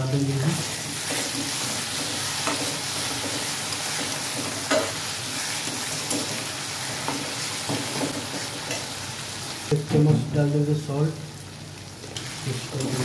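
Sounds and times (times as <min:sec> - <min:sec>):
onions sizzling in oil: 0:00.0 - 0:09.9, 0:10.9 - 0:13.0.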